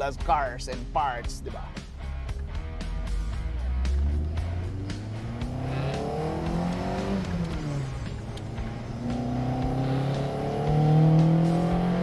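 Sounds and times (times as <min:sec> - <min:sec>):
car engine revving: 0:02.0 - 0:12.0.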